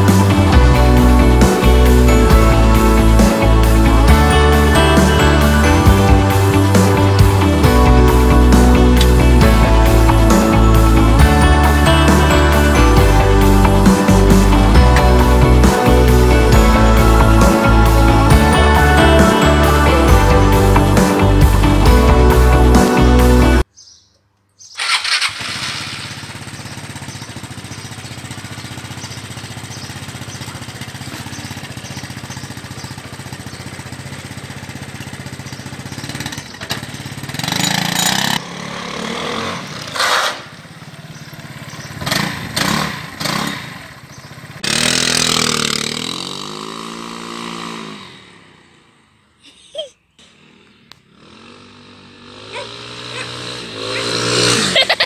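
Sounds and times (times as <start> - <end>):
scooter engine revving: 0.0 - 23.7, 24.8 - 49.4, 50.2 - 55.0.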